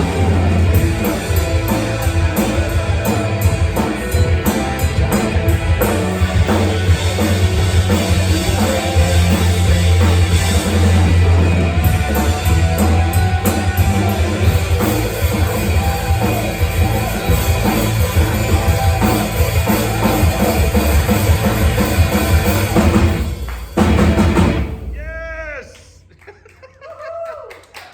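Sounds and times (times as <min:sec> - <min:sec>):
rock band playing: 0:00.0 - 0:25.4
drum kit: 0:00.0 - 0:25.8
heavy bass: 0:00.0 - 0:25.9.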